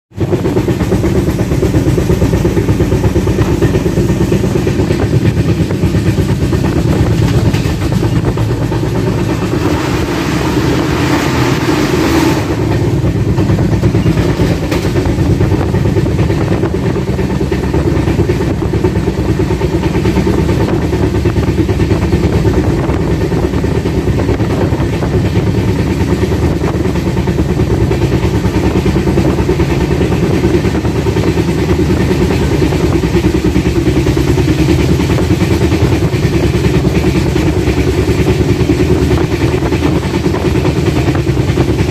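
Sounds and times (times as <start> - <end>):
train wheels clattering on rails: 0.1 - 41.9
wind rush: 0.1 - 41.9.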